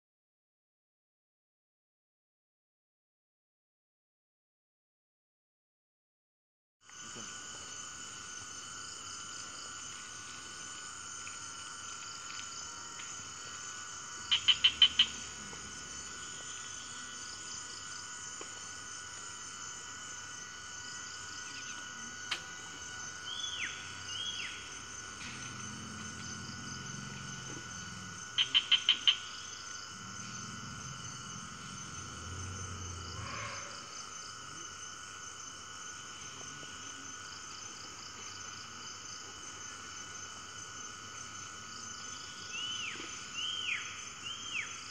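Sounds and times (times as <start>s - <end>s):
insects and frogs buzzing: 6.8s - 44.9s.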